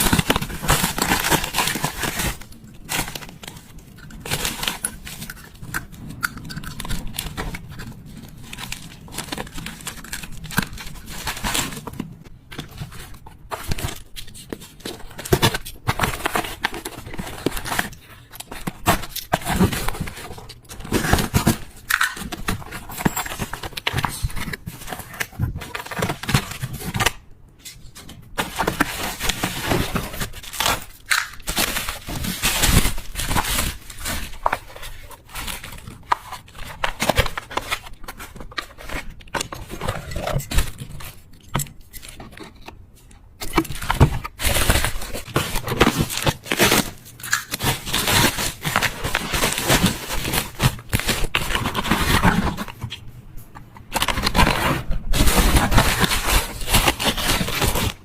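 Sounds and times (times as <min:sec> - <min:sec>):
packaging crinkling and tearing: 0:00.0 - 0:53.0, 0:53.8 - 0:58.0.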